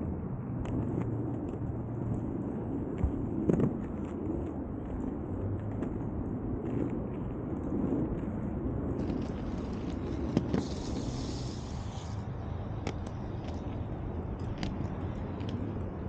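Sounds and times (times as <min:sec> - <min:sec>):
small hard wheels rolling on asphalt: 0:00.0 - 0:16.0.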